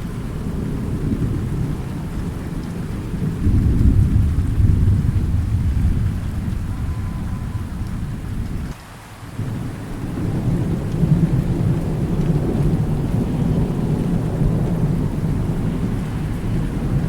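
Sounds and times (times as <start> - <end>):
rolling thunder: 0.0 - 8.7, 9.4 - 17.0
steady rain: 0.0 - 17.0.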